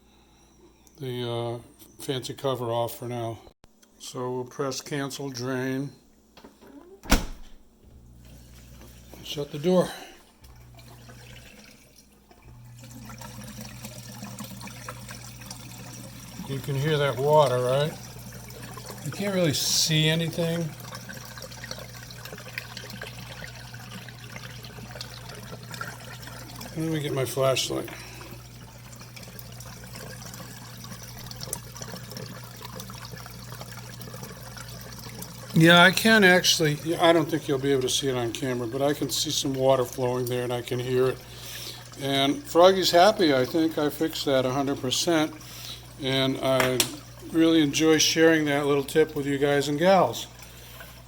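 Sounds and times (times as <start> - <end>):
dishwasher drain pump humming: 4.7 - 51.0
water draining: 7.9 - 51.0.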